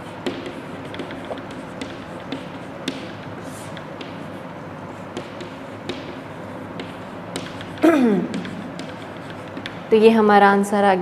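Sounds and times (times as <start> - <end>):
chalk tapping on a blackboard: 0.0 - 10.1.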